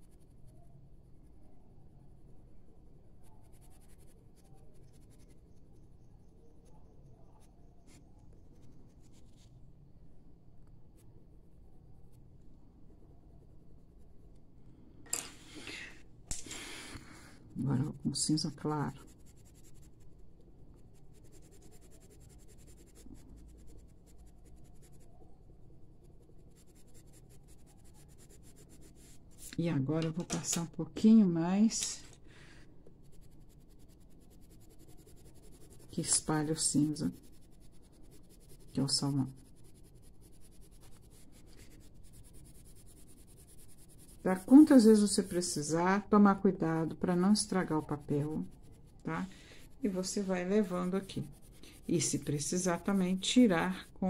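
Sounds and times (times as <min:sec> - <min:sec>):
pencil scratching on paper: 0:00.0 - 0:01.3, 0:03.2 - 0:09.6, 0:17.5 - 0:32.4, 0:33.0 - 0:54.0.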